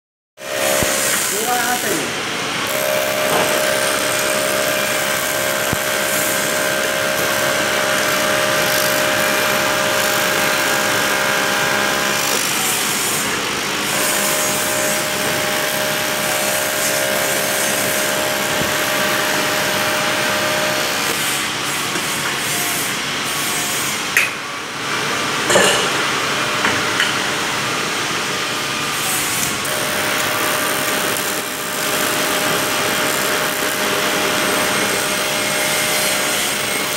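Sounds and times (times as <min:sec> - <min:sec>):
welding arc hissing buzz: 0:00.4 - 0:24.1, 0:28.9 - 0:36.9.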